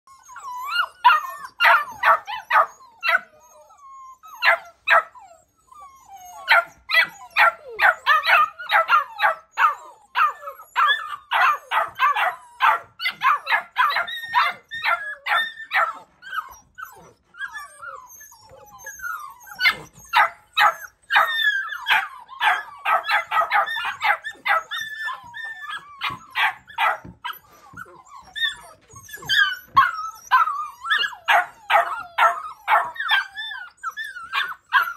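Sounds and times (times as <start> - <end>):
puppies barking high-pitched yaps: 0.2 - 3.6, 4.2 - 5.5, 6.2 - 34.9.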